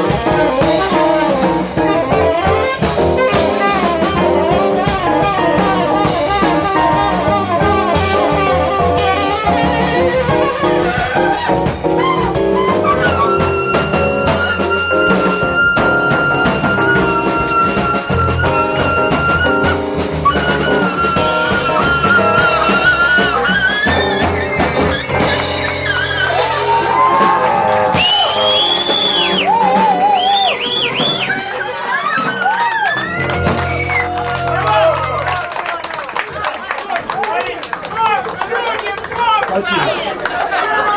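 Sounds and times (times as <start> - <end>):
jazz quartet playing: 0.0 - 35.7
lead horn: 0.0 - 36.2.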